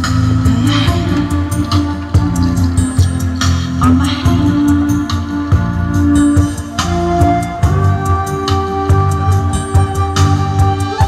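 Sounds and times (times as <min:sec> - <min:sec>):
backing track with bass pulse: 0:00.0 - 0:11.0
flute melody: 0:00.8 - 0:11.0.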